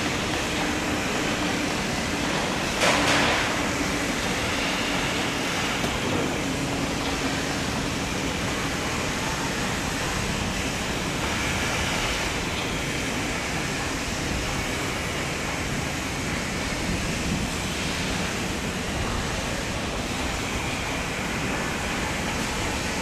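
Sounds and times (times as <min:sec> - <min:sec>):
electric locomotive rumbling: 0:00.0 - 0:23.0.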